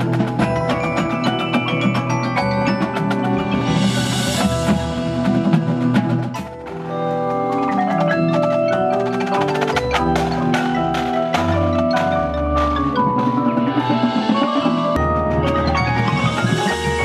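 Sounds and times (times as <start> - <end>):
marimbas and vibraphones playing: 0.0 - 17.0.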